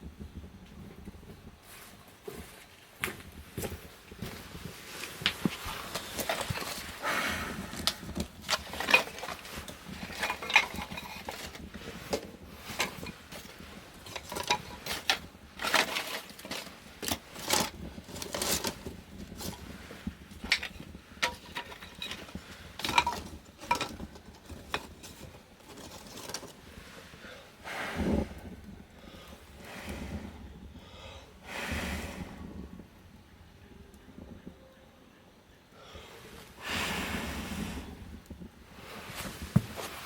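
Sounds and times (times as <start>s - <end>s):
firewood crackling and popping: 0.0s - 34.6s, 35.8s - 40.0s.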